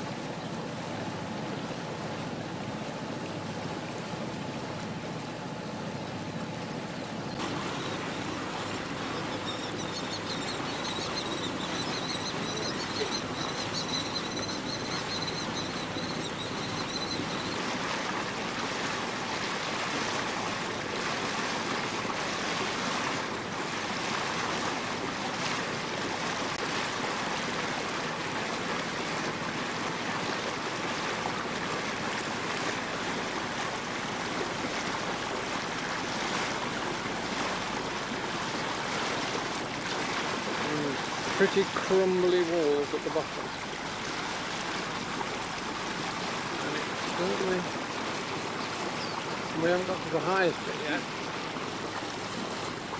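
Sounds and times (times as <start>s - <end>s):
water rushing along hull: 0.0s - 52.9s.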